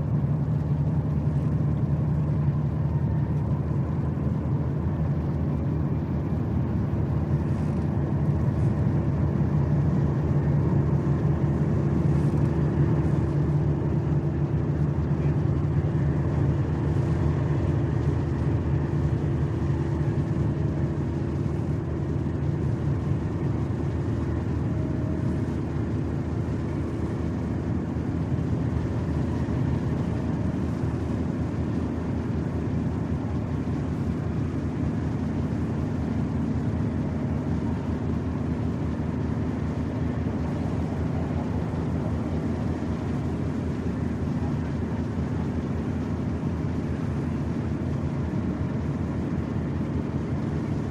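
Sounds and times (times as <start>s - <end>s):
ship engines droning: 0.0s - 50.9s.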